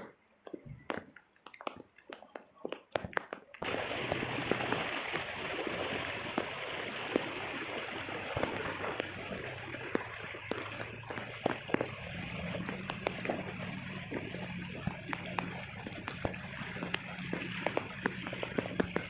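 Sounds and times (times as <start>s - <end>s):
flowing water rushing: 3.1s - 19.0s.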